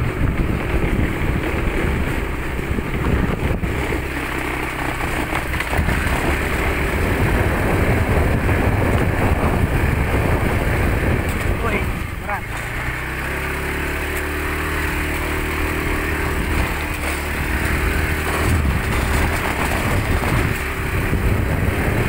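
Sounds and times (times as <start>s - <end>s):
motor scooter running: 0.0s - 22.0s.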